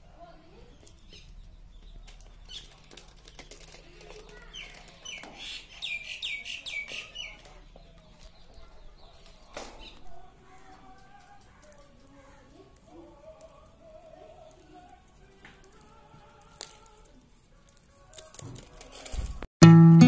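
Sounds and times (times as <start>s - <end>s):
birds pecking seed clicks: 0.2s - 19.2s.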